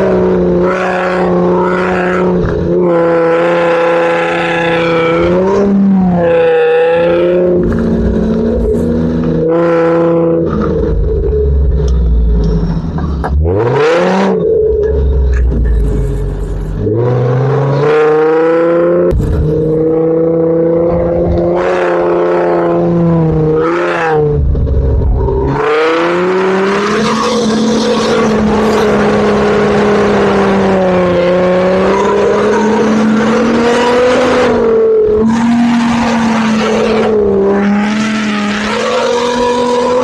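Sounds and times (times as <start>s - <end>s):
off-road engine revving: 0.0s - 40.0s.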